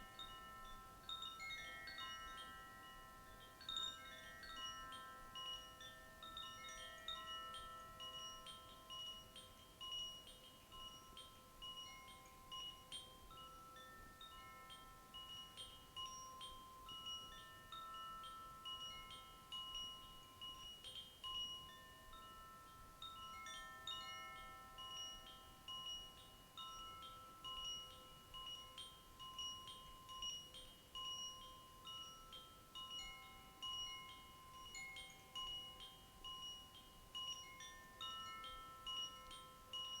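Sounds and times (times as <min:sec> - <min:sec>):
wind chimes ringing: 0:00.0 - 0:40.0.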